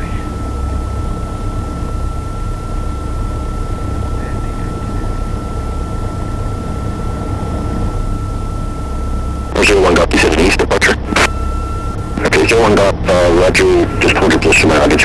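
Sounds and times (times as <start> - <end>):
aircraft engine idling: 0.0 - 15.0.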